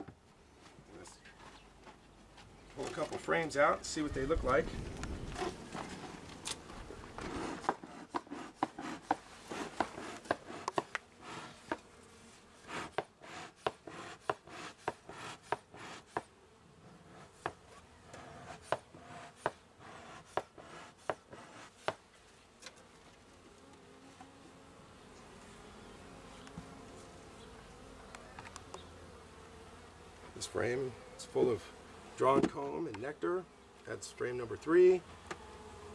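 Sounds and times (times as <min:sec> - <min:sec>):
honey bees buzzing: 0:03.3 - 0:35.9.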